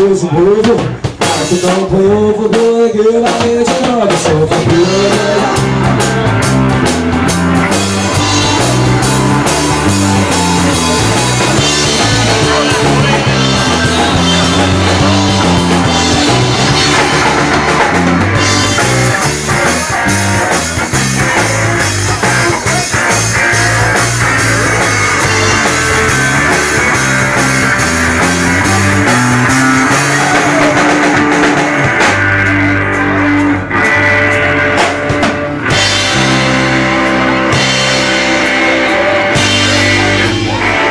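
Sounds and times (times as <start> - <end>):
loud rock music: 0.0 - 40.9.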